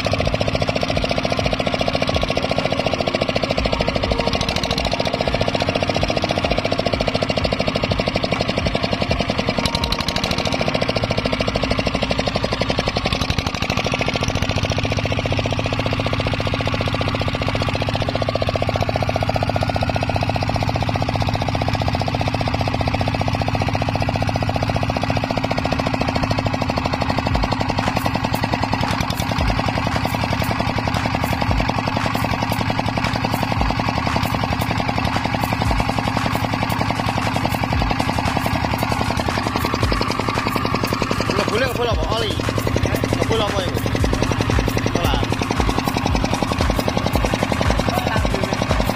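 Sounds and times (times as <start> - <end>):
diesel engine knocking: 0.0 - 48.9.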